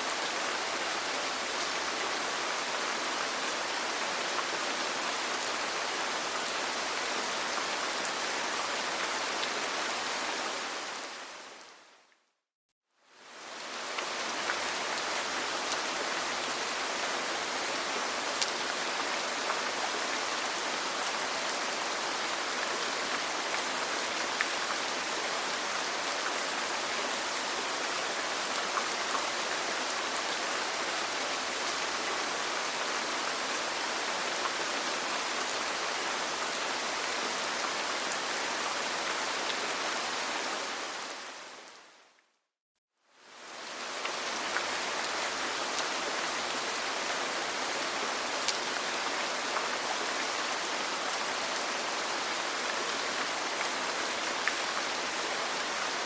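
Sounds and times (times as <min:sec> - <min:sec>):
steady rain falling: 0:00.0 - 0:12.2, 0:13.0 - 0:42.2, 0:43.1 - 0:56.0.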